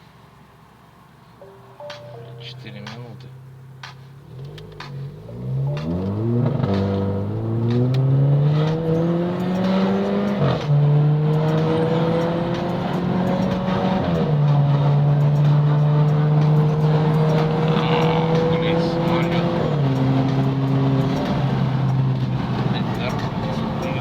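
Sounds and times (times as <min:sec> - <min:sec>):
car engine accelerating hard: 0:03.2 - 0:24.0.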